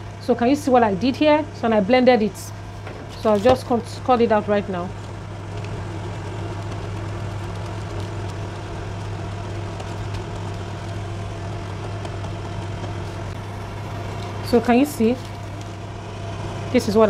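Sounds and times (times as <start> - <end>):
low hum: 2.3 - 17.0.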